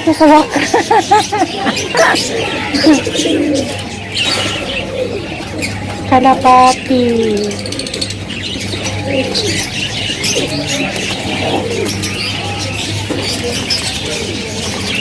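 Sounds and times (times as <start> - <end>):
pigeons cooing: 0.0 - 15.0
small birds chirping: 0.0 - 15.0.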